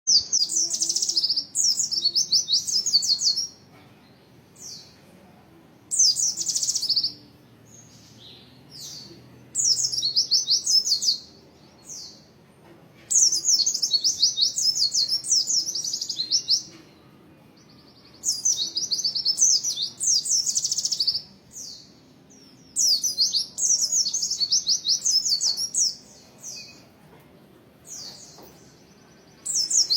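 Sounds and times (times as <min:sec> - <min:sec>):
bird singing trilled phrases: 0:00.1 - 0:03.6, 0:05.9 - 0:12.3, 0:13.1 - 0:16.7, 0:17.6 - 0:26.8, 0:27.9 - 0:29.9.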